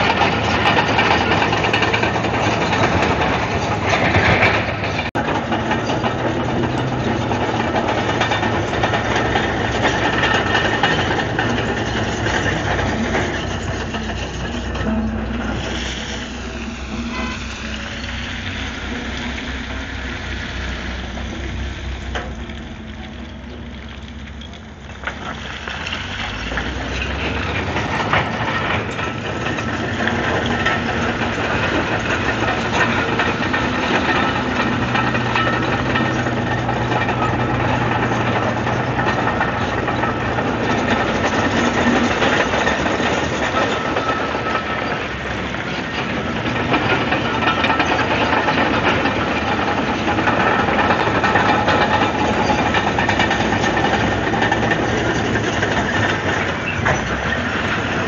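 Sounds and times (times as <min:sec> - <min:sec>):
bulldozer diesel engine drone: 0:00.0 - 0:58.0
steel tracks rattling: 0:00.0 - 0:58.0.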